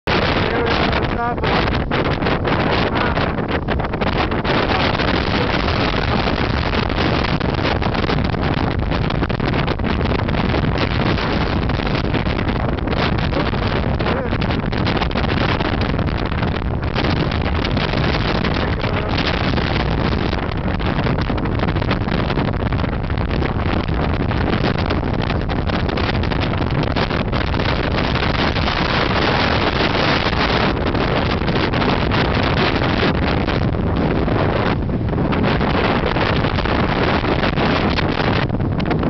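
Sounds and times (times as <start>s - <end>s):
strong wind buffeting microphone: 0.0s - 39.0s.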